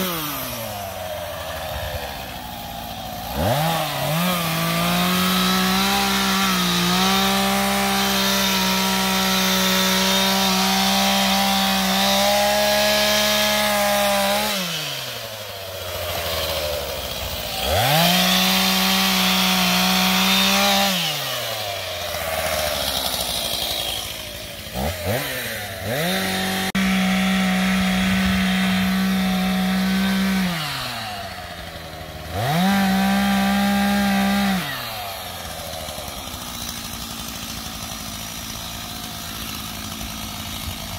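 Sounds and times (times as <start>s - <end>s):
chainsaw cutting branches: 0.0s - 40.9s.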